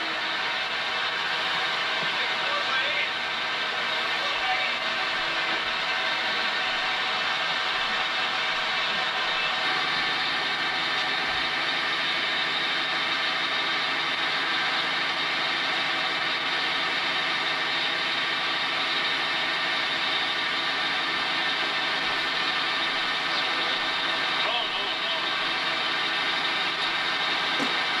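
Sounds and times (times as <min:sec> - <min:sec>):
machine engine droning: 0:00.0 - 0:28.0.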